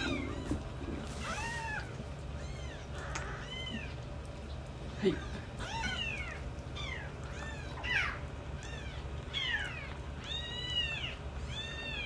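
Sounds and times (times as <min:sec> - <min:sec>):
kittens mewing: 0:00.0 - 0:04.2, 0:04.8 - 0:12.0.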